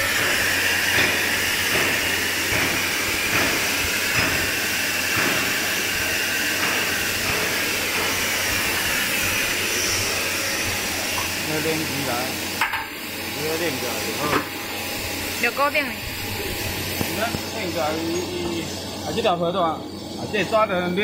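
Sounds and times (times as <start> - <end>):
workshop machinery hiss: 0.0 - 21.0.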